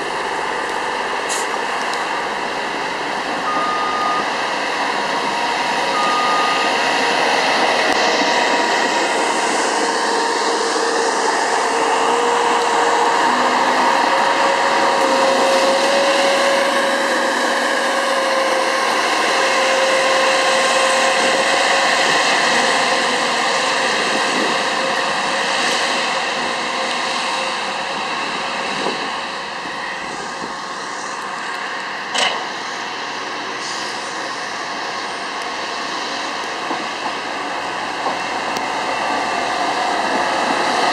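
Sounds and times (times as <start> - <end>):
railway machine engines running: 0.0 - 40.9.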